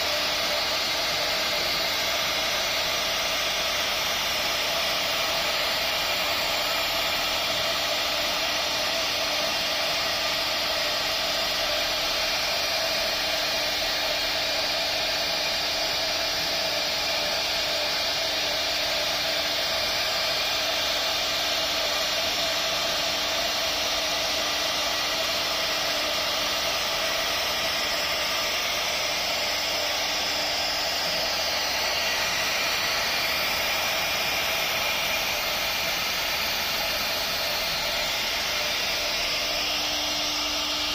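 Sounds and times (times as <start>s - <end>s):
router spindle milling wood: 0.0s - 40.9s.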